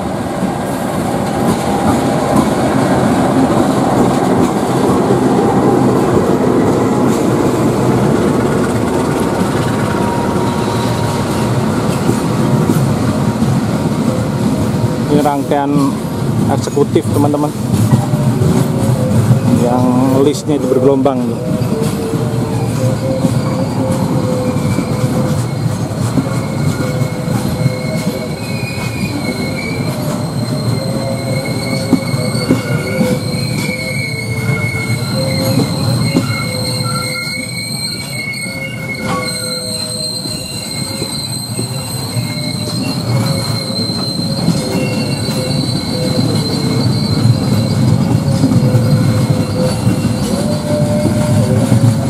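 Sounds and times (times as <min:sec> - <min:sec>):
rumble of wheels on rail: 0:00.0 - 0:52.0
train wheels squealing: 0:00.7 - 0:52.0.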